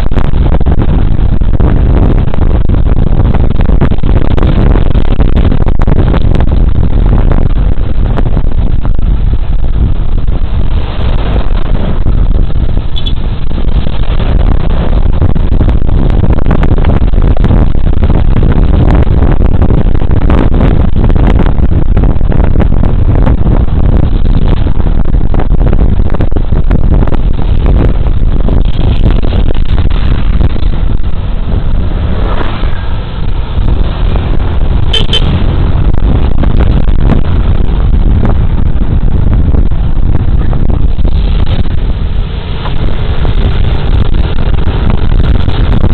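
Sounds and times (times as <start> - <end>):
engine and road noise: 0.0 - 45.9
wind rumbling over microphone: 0.0 - 45.9.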